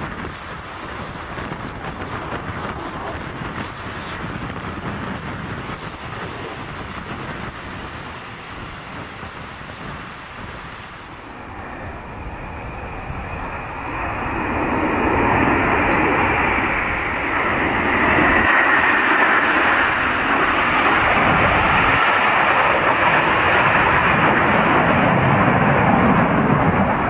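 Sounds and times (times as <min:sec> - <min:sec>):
aircraft engine roar: 0:00.0 - 0:27.0.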